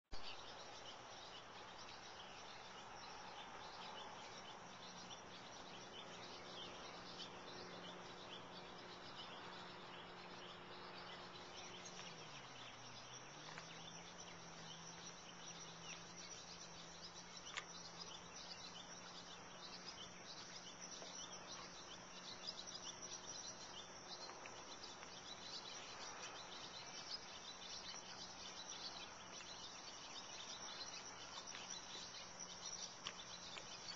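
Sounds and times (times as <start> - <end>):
bird chirps: 0.1 - 33.9
insects chirping: 0.1 - 33.9.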